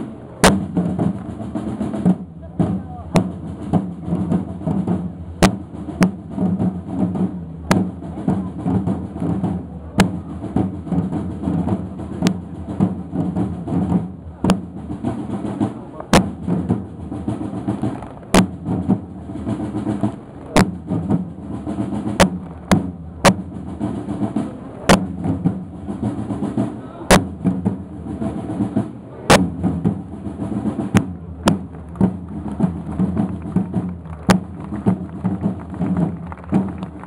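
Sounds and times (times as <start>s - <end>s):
snare drums marching beat: 0.0s - 37.0s.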